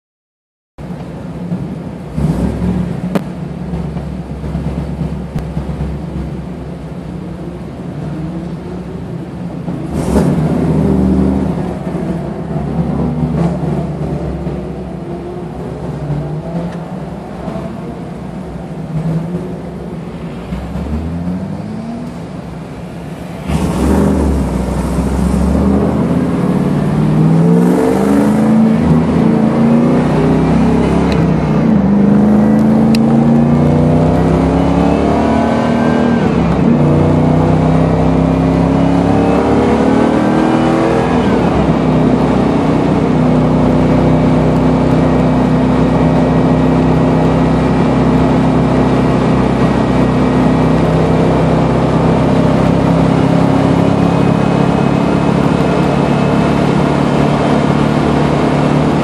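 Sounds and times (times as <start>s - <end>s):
car engine accelerating: 0.8s - 59.0s.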